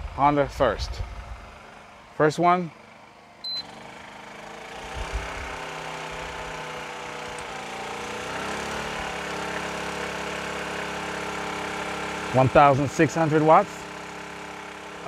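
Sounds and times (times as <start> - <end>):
generator engine speeding up: 0.0 - 15.0.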